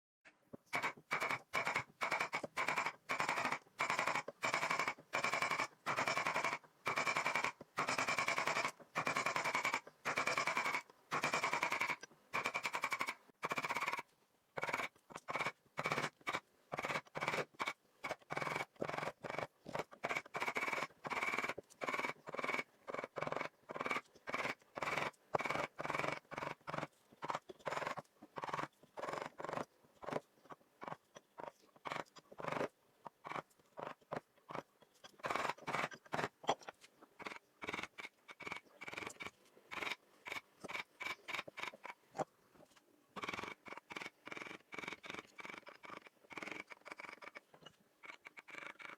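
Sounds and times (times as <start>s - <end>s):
carving blade scraping wood: 0.7s - 48.9s.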